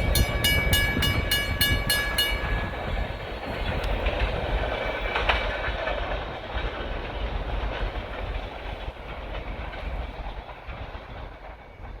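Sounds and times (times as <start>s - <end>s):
train rumble: 0.0s - 12.0s
train wheels clacking over rail joints: 0.0s - 12.0s.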